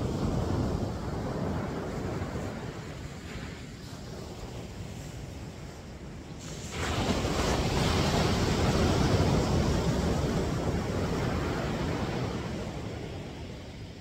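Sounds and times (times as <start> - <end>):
wave breaking on a beach: 0.0 - 14.0.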